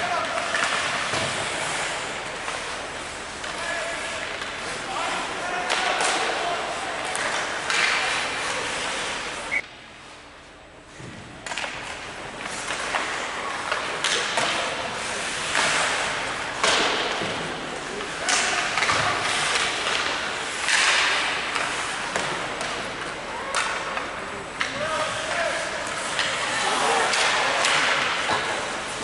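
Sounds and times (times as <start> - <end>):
echoing hall background noise: 0.0 - 29.0.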